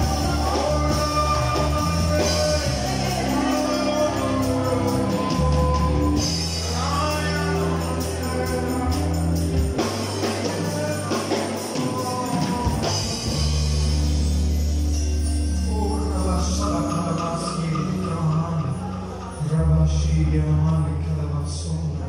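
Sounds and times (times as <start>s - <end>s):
sustained bass notes: 0.0s - 22.0s
worship band playing with singing: 0.0s - 22.0s.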